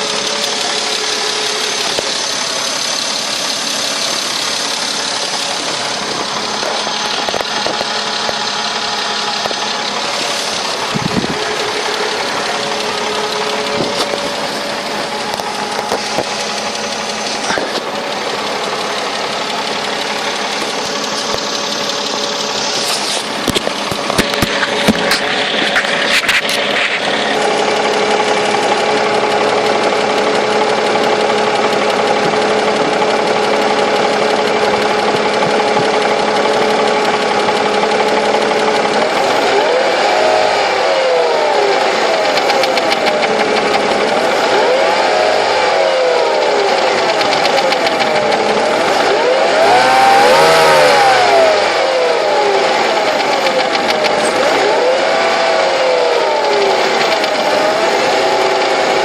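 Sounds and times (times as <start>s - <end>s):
car engine idling and revving: 0.0s - 59.0s
engine knock: 0.0s - 59.0s.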